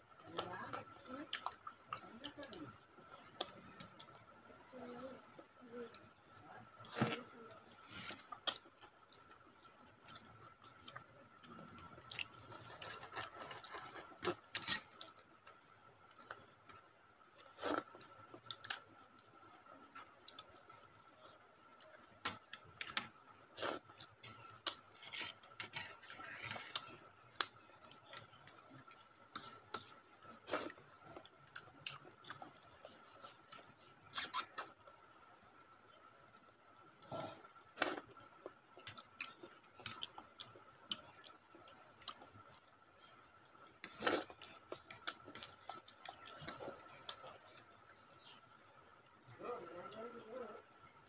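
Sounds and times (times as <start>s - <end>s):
soft eating noises: 0.0s - 51.0s.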